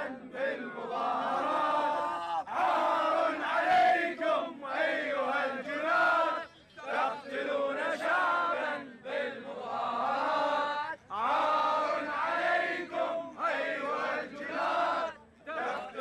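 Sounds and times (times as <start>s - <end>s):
crowd of men chanting: 0.0s - 16.0s.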